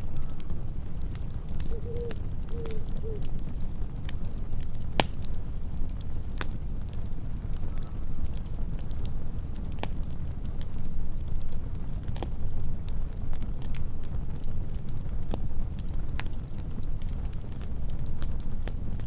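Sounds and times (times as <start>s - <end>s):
crickets chirping: 0.0s - 13.1s, 13.8s - 15.2s, 15.8s - 16.4s, 17.0s - 18.6s
campfire crackling: 0.0s - 19.0s.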